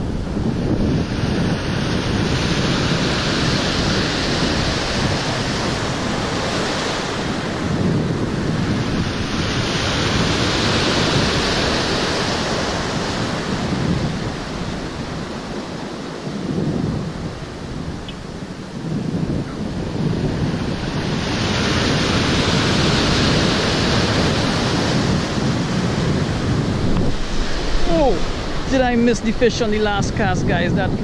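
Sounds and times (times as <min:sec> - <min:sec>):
ocean waves breaking: 0:00.0 - 0:31.0
wind rumbling on microphone: 0:00.0 - 0:31.0.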